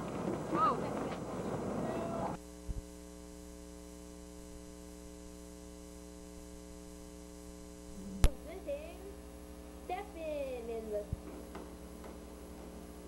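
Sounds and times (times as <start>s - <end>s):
electrical mains hum: 0.0s - 13.0s
outdoor sound: 0.0s - 13.0s.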